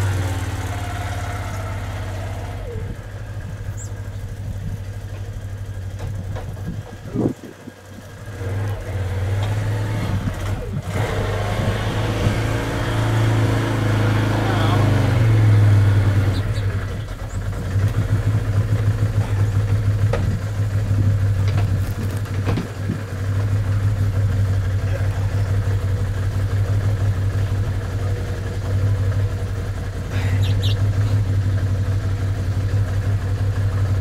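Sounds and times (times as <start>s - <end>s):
atv engine idling: 0.0s - 34.0s.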